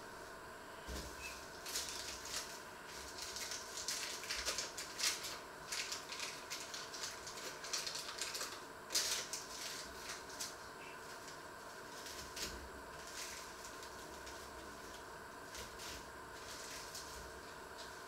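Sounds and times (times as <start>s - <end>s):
food crackling at stove: 1.2s - 18.0s.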